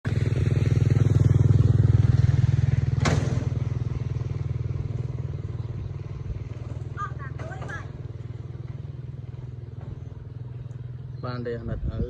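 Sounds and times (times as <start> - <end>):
small engine running: 0.1 - 11.8.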